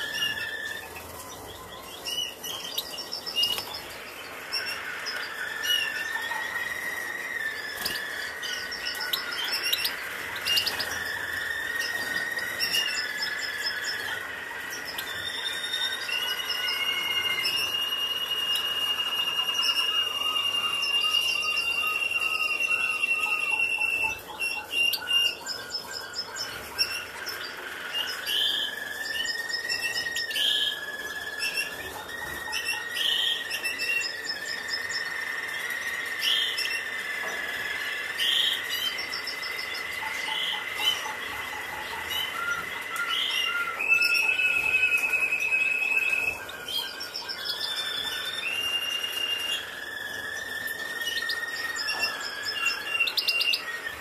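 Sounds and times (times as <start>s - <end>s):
finch trills: 0.0s - 54.0s.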